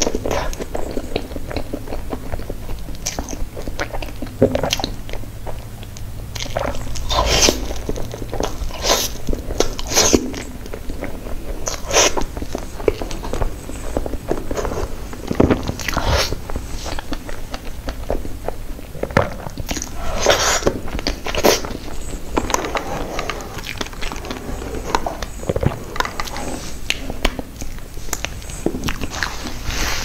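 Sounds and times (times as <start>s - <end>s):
biting and chewing: 0.0s - 30.0s.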